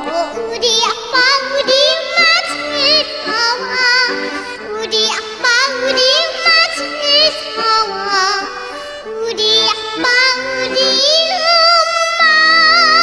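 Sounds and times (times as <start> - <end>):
girl singing with vibrato: 0.0 - 13.0
instrumental accompaniment: 0.0 - 13.0.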